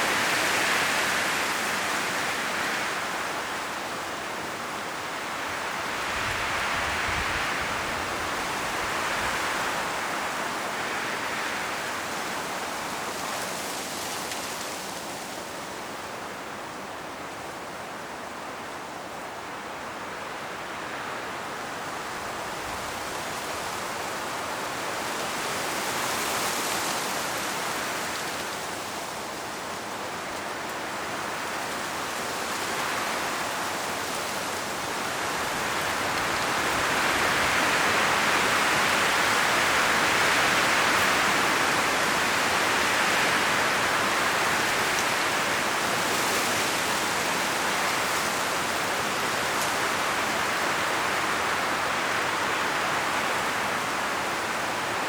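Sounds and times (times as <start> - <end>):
wind rustling tree leaves: 0.0 - 55.0.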